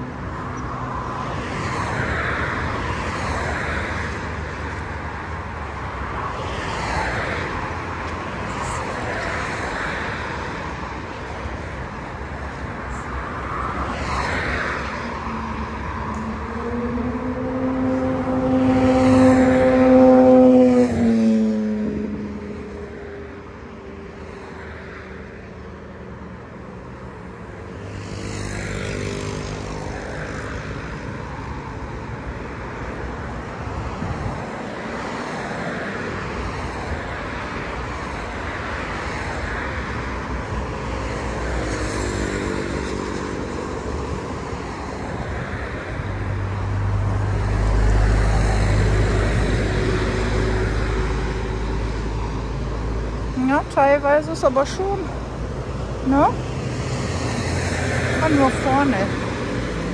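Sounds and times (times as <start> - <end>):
traffic passing: 0.0 - 59.9.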